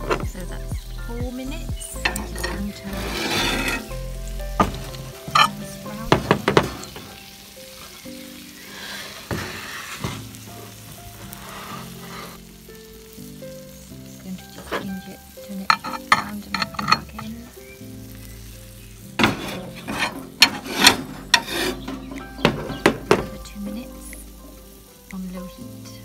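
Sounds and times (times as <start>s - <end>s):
chicken sizzling in a pan: 0.0s - 26.0s
sharp crackles and clicks: 0.0s - 26.0s.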